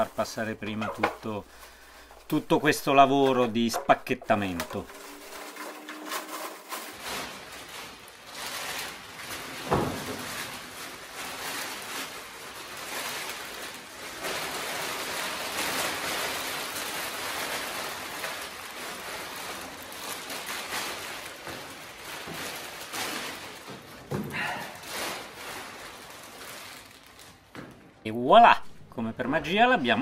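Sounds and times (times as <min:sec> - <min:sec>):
cardboard and plastic rustling: 0:00.0 - 0:28.0.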